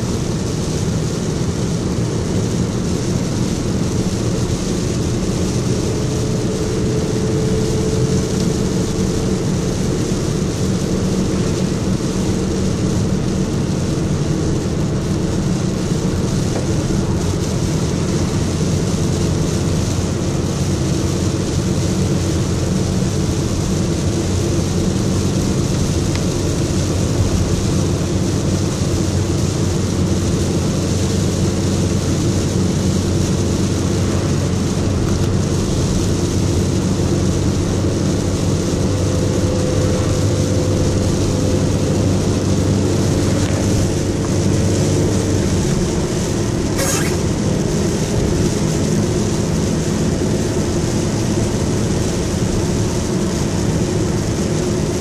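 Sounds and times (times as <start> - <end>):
engine and drivetrain drone: 0.0 - 55.0
tyres hissing on wet road: 0.0 - 55.0.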